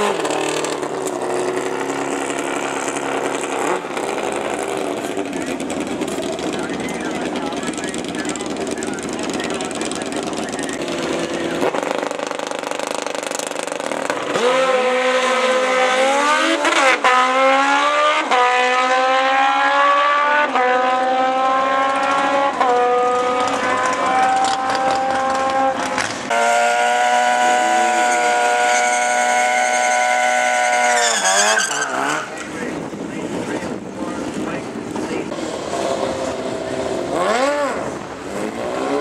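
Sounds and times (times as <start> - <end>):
motorcycle revving in burnout: 0.0 - 39.0
motorcycles accelerating hard: 0.0 - 39.0.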